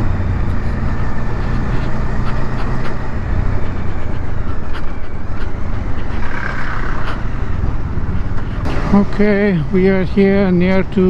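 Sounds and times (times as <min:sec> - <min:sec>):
motorcycle engine running: 0:00.0 - 0:11.0
wind and road rush: 0:00.0 - 0:11.0.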